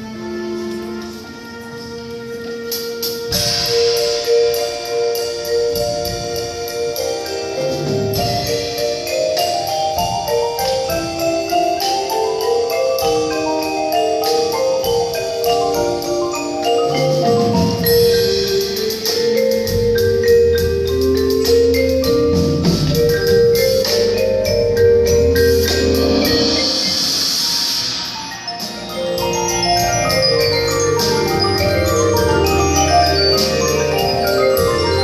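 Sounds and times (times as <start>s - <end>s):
mallet percussion fast notes: 0.0s - 35.0s.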